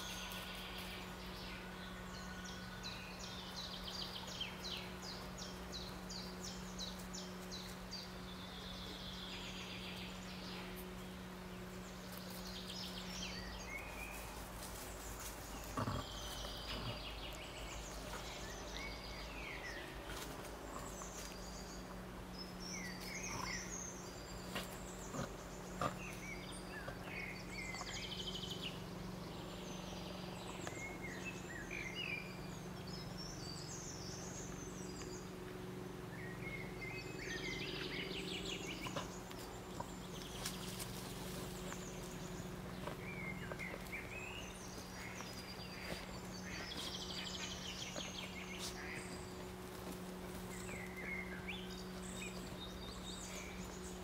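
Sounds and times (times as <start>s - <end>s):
songbirds singing: 0.0s - 54.0s
steady low hum: 0.0s - 54.0s.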